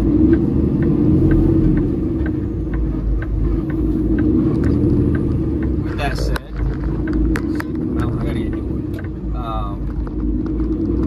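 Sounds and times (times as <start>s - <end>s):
diesel truck engine rumbling: 0.0s - 11.0s
light ticking: 0.0s - 11.0s.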